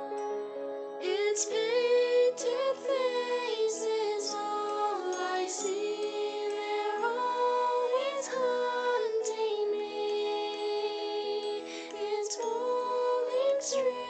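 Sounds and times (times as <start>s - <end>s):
soft sustained backing track: 0.0s - 14.0s.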